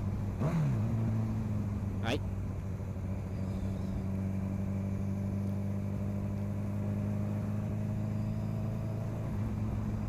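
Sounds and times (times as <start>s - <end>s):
motorcycle engine droning: 0.0s - 10.0s.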